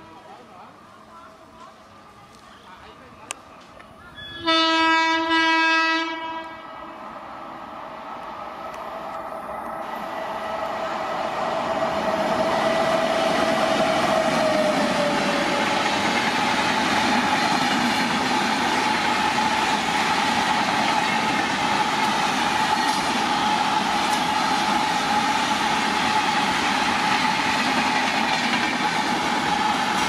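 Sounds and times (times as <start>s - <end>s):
train rushing past: 4.1s - 30.0s.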